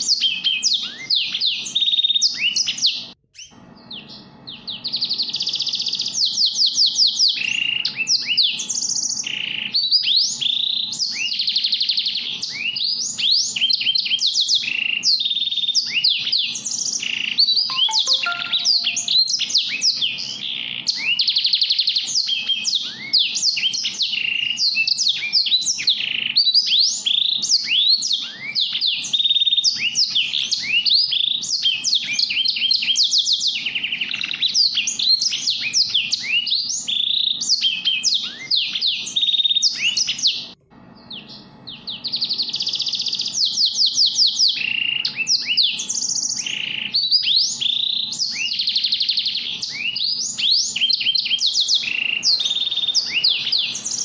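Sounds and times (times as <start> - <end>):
finches chirping and trilling: 0.0 - 54.0.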